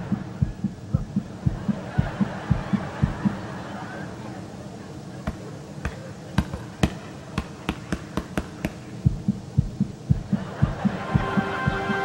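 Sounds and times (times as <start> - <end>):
low thumping beat: 0.0 - 3.5, 5.3 - 12.0.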